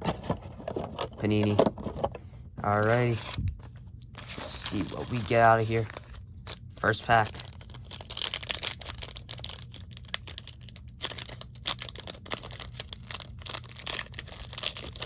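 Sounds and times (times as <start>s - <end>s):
card pack wrapper tearing and crinkling: 2.8s - 15.0s.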